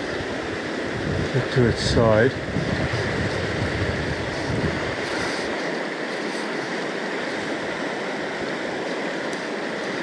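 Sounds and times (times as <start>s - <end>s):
water rushing over stones: 0.0s - 10.0s.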